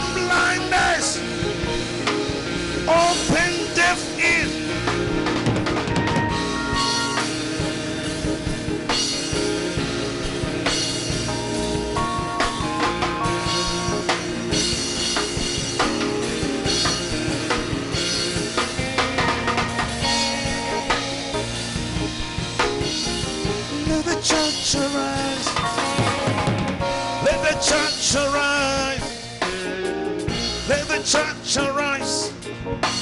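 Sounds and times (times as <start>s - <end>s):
drum kit steady beat: 0.0s - 33.0s
worship music: 0.0s - 33.0s.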